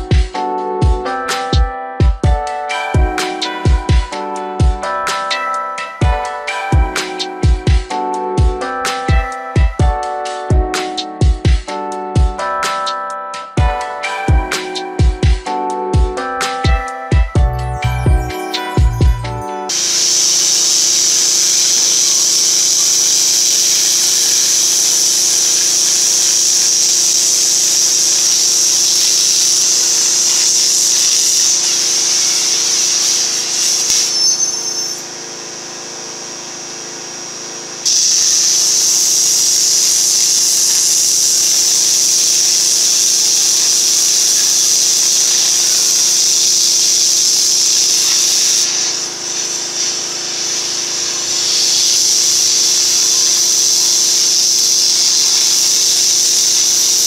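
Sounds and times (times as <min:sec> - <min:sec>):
cutting torch hissing: 0:02.4 - 0:10.4, 0:17.8 - 0:57.0.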